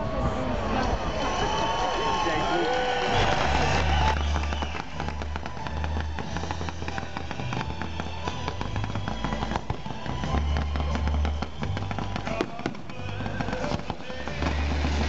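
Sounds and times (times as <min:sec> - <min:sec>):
fireworks popping and crackling: 0:01.3 - 0:15.0.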